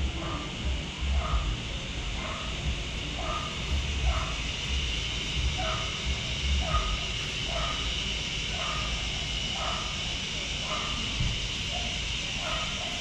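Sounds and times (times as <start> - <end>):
steady hiss: 0.0 - 13.0
dog barking: 0.2 - 4.6, 5.4 - 13.0.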